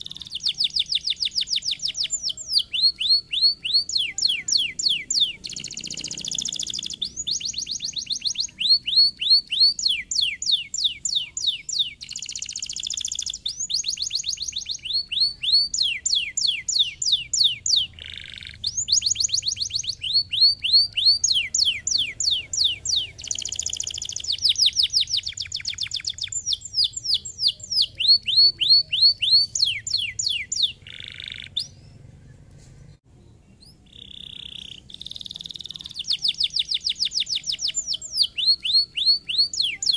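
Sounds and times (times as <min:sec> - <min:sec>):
canary singing trills: 0:00.0 - 0:32.5, 0:33.1 - 0:39.9.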